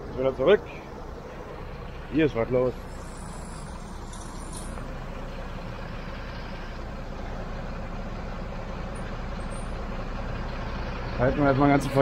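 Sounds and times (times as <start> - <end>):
road traffic: 0.0 - 12.0
truck engine rumbling: 0.0 - 12.0.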